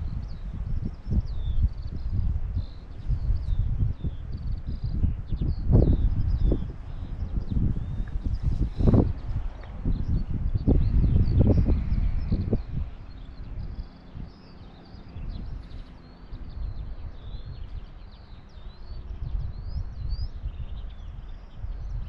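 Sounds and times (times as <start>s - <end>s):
low rumble: 0.0s - 18.1s
small birds chirping: 0.0s - 22.0s.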